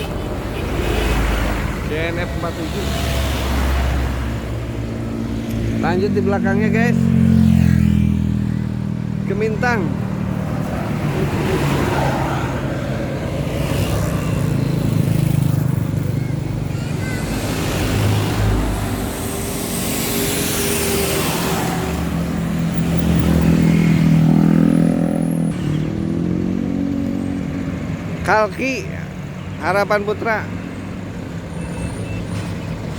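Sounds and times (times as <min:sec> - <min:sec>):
buses driving past: 0:00.0 - 0:28.3
traffic noise: 0:00.0 - 0:32.9.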